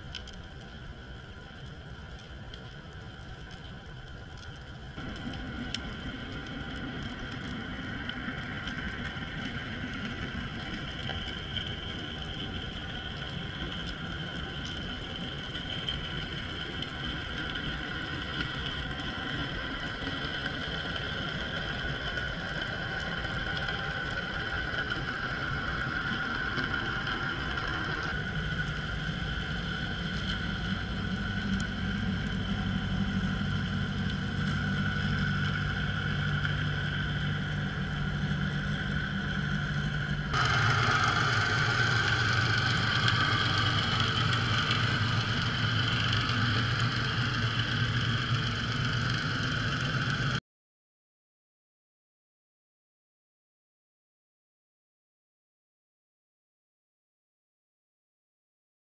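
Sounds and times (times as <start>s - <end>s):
underwater engine hum with whine: 0.0s - 50.4s.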